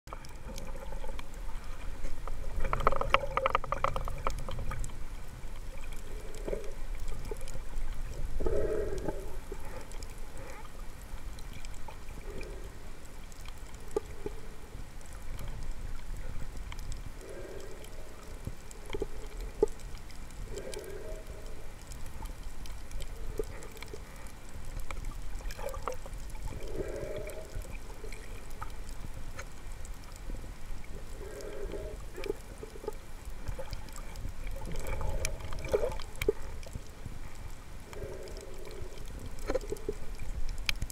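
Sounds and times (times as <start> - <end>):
muffled underwater seawater sloshing: 0.1 - 40.9.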